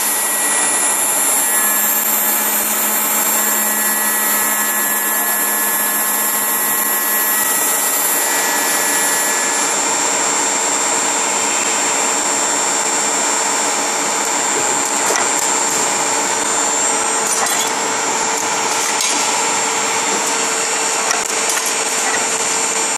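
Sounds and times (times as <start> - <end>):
key-cutting machine whining: 0.0 - 22.9.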